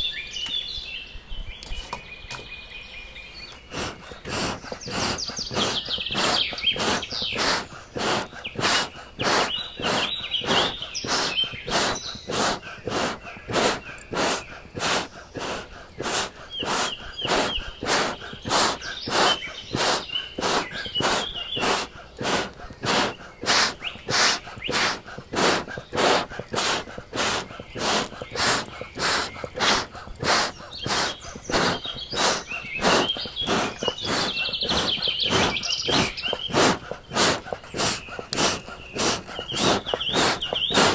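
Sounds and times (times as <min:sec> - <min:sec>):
birds singing: 0:00.0 - 0:40.9
hand bellows rush of air: 0:03.6 - 0:40.9.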